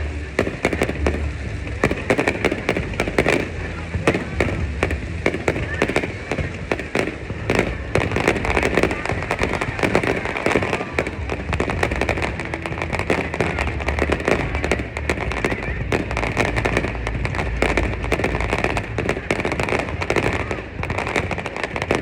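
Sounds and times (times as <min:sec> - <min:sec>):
fireworks crackling bangs: 0:00.0 - 0:22.0
low rumble of booms: 0:00.0 - 0:22.0.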